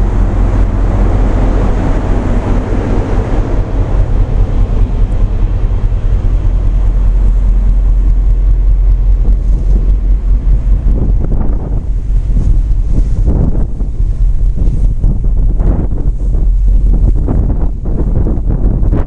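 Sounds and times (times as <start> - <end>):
tugboat engine rumbling: 0.0 - 19.0.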